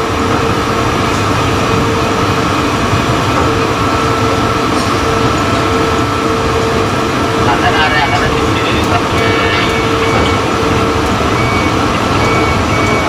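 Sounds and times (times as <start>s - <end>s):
crane machinery rumble: 0.0s - 13.0s.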